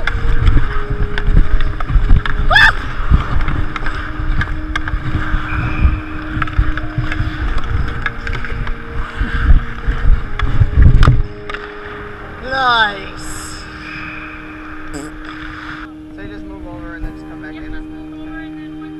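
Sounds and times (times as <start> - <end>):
wind rumbling on microphone: 0.0 - 17.8.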